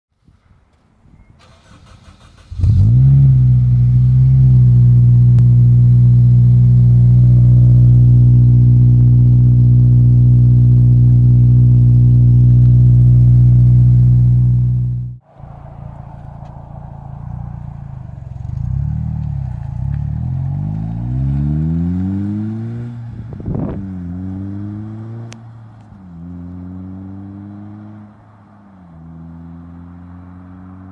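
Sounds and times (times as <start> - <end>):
car engine revving: 1.4 - 30.9.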